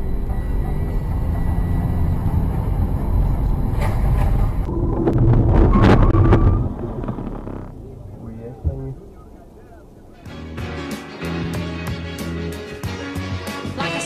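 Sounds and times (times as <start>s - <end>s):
car engine: 0.0s - 12.9s
road rumble: 0.0s - 14.0s.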